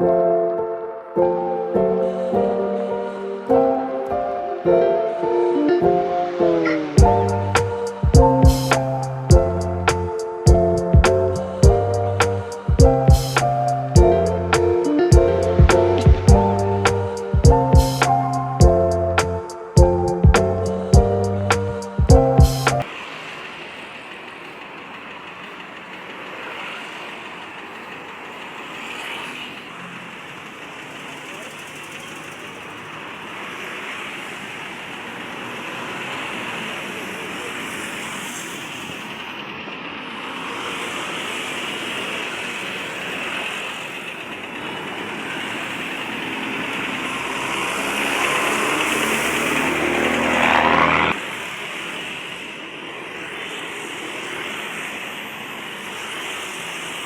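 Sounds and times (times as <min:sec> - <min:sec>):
road traffic rushing: 0:00.0 - 0:57.0
bus engine running: 0:01.3 - 0:57.0.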